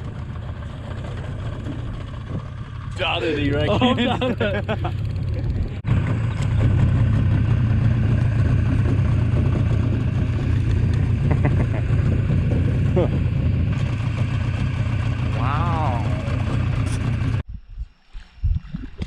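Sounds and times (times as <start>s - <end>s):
engine running with low drone: 0.0s - 17.5s.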